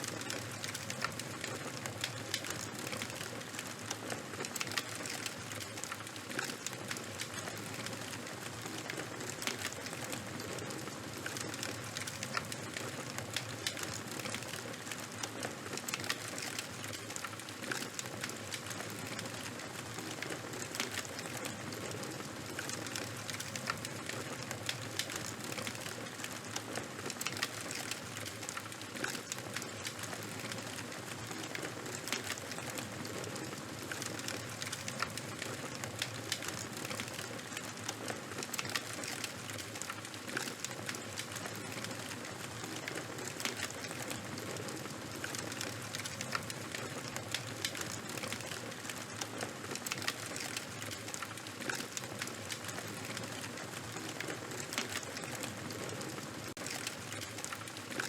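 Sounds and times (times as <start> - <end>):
fire hissing and crackling: 0.0 - 58.0.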